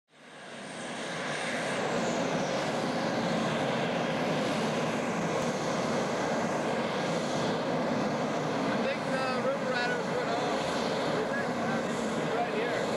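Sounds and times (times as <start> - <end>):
jet engines roaring: 0.1 - 12.9.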